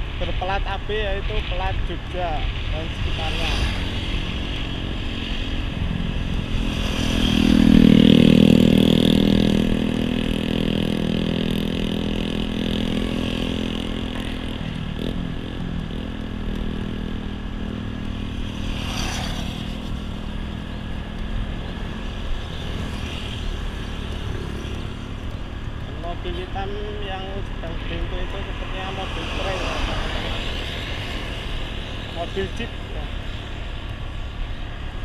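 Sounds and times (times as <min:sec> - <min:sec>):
road noise: 0:00.0 - 0:35.0.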